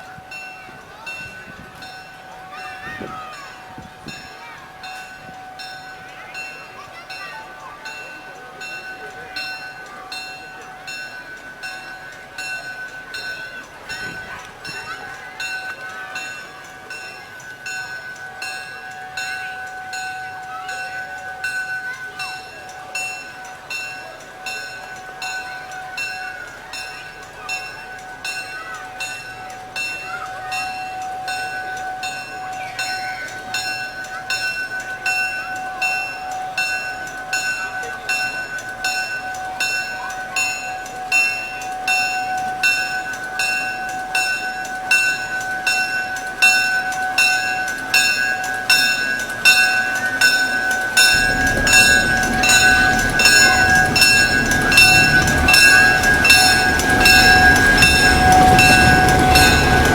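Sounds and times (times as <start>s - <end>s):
crossing bell ringing: 0.0s - 59.9s
train rumbling: 0.0s - 59.9s.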